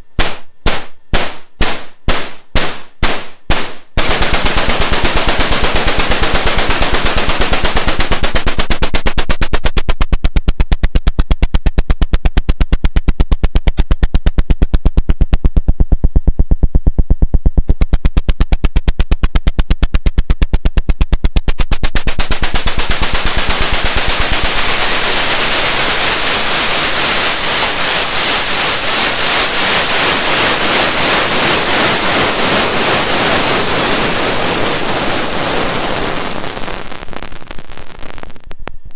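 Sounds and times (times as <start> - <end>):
synthesizer noise percussion hits: 0.0 - 34.4.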